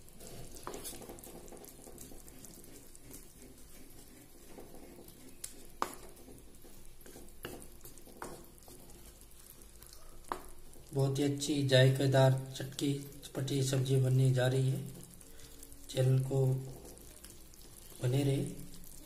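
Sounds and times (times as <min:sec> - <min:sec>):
gravy sizzling and bubbling: 0:00.0 - 0:19.0.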